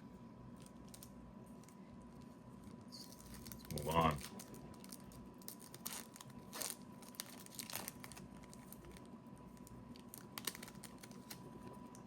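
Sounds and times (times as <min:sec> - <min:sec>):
foil wrapper rustling: 0:00.6 - 0:12.0.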